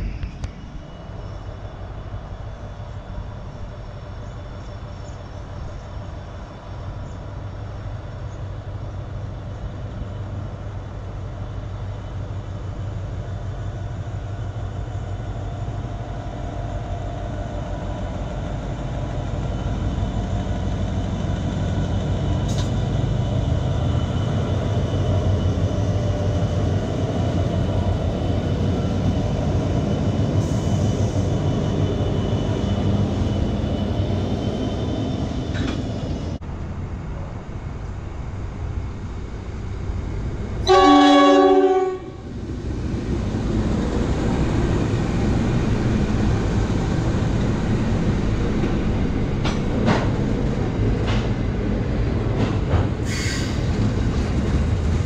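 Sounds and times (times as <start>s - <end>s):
freight locomotives passing: 0.0s - 55.0s.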